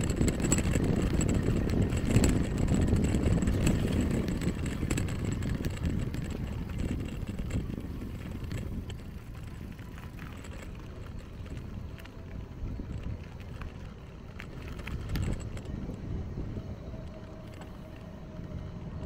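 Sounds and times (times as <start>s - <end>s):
bicycle tyre rumble on pavement: 0.0s - 19.0s
light clicks and rattles: 0.0s - 19.0s
wind rushing over microphone: 0.0s - 19.0s.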